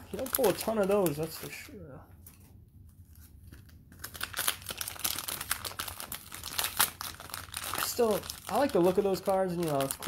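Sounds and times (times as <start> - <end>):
cellophane wrapper crinkling and tearing: 0.0 - 10.0.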